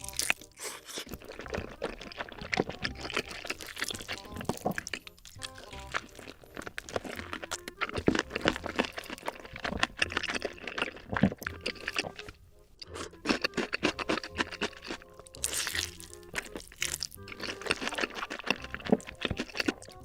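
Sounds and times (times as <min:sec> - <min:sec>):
sausages being bitten and chewed: 0:00.0 - 0:20.0.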